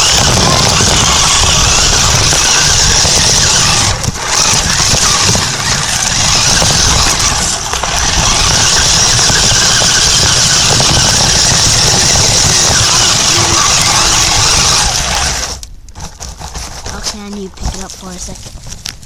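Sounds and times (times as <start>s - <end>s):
toy truck motor whining: 0.0s - 15.6s
rattle: 0.0s - 19.0s
rumble of wheels: 0.0s - 19.0s.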